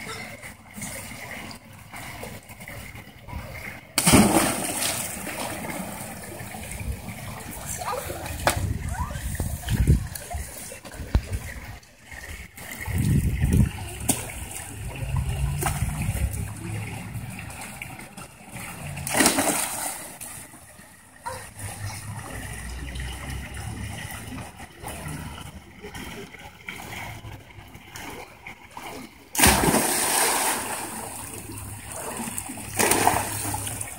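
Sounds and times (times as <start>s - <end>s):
water splashing in a pool: 0.0s - 33.9s.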